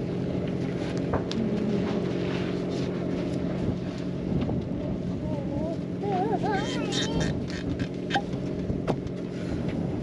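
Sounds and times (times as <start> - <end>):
engine humming: 0.0 - 9.8.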